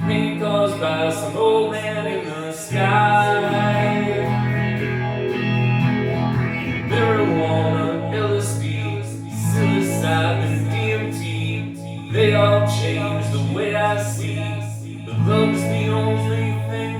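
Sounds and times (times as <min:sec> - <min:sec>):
guitar: 0:00.0 - 0:16.9
low bass notes: 0:00.0 - 0:16.9.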